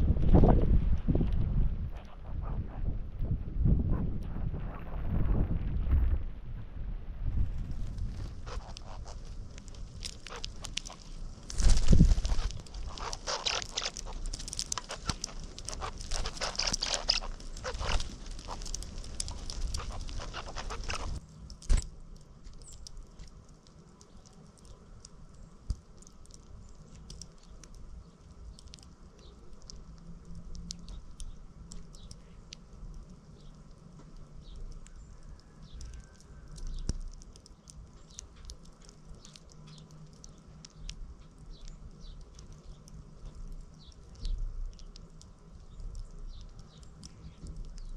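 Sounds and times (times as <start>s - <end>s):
birds pattering and rustling: 7.5s - 47.9s
high bird ticks and chips: 7.8s - 47.9s.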